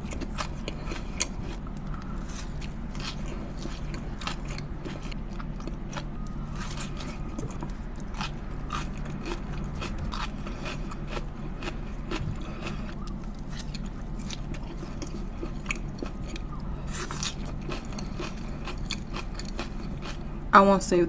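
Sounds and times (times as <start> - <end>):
close chewing with wet mouth clicks: 0.0 - 20.3
steady low hum: 0.0 - 21.0.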